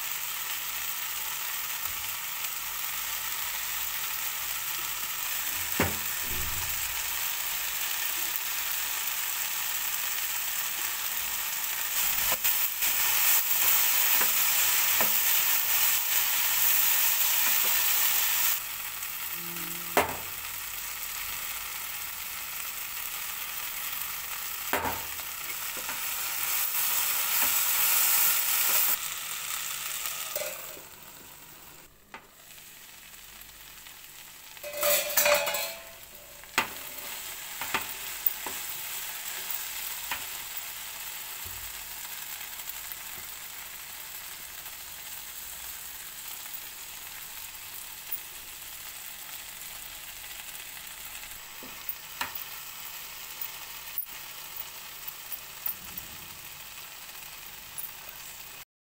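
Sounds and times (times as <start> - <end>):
okra sizzling in frying pan: 0.0 - 58.6.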